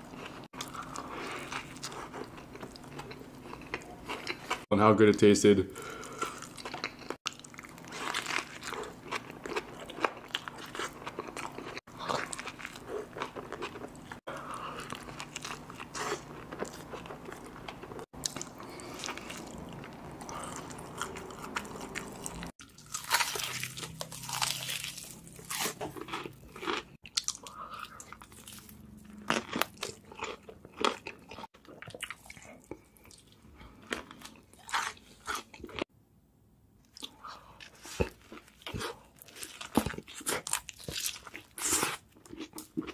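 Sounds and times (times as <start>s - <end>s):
crunchy bites and chewing: 6.1s - 35.9s, 36.9s - 42.9s.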